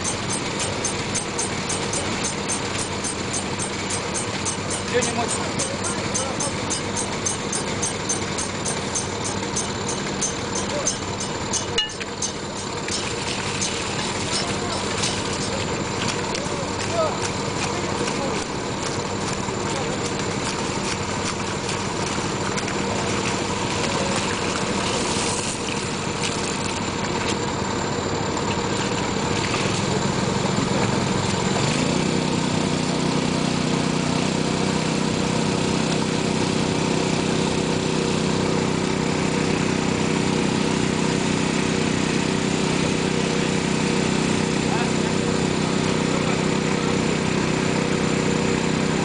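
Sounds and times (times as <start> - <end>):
petrol water pump running: 0.0 - 49.0.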